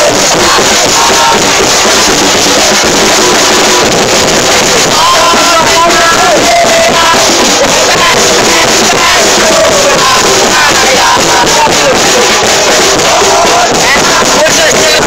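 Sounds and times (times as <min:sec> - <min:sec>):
stadium crowd singing a chant: 0:00.0 - 0:15.0.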